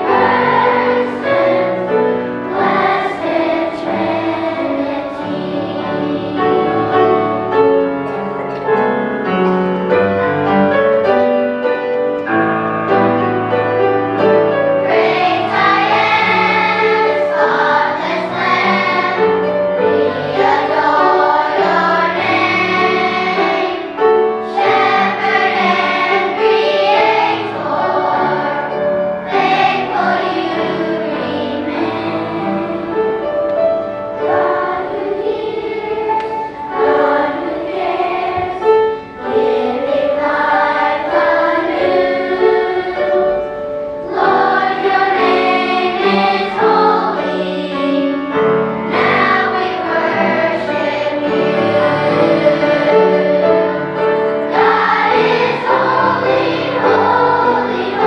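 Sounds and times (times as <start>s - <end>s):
children's choir singing: 0.0s - 58.0s
piano accompaniment: 0.0s - 58.0s.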